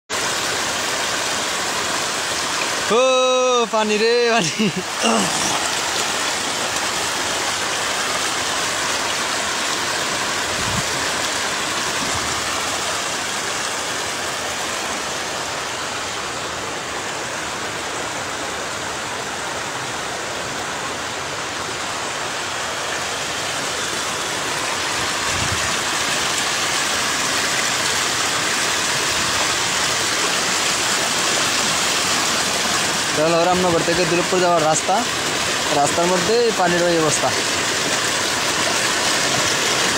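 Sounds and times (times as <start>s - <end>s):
floodwater rushing: 0.1s - 39.9s.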